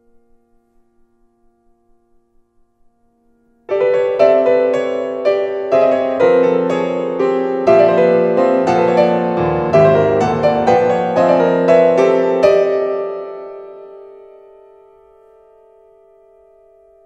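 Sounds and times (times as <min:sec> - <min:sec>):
grand piano chords: 0:00.0 - 0:17.0.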